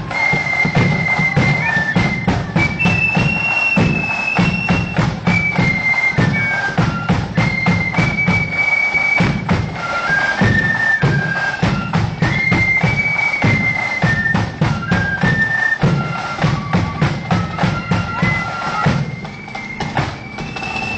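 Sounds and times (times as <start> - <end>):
flutes playing high melody: 0.0 - 20.9
snare drums: 0.0 - 20.9.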